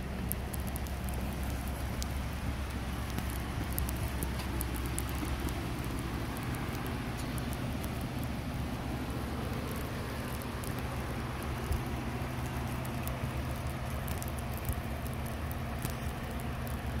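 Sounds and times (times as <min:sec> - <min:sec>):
vehicle engine idling: 0:00.0 - 0:17.0
wet snow pattering: 0:00.0 - 0:17.0.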